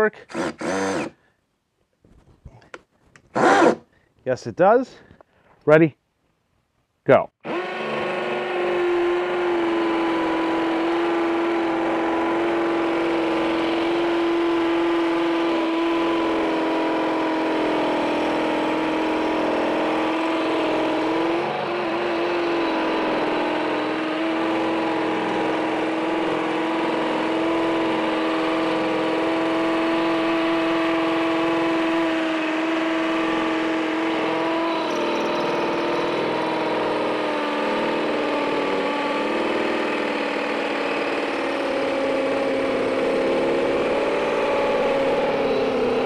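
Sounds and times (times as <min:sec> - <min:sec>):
hammer drill boring into concrete: 0:00.2 - 0:01.2, 0:03.4 - 0:03.9, 0:07.4 - 0:46.0.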